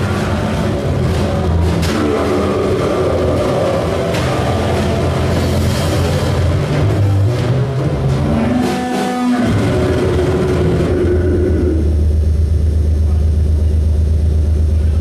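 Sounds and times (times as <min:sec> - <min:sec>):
distorted electronic noise: 0:00.0 - 0:15.0
loud low drone: 0:00.0 - 0:15.0.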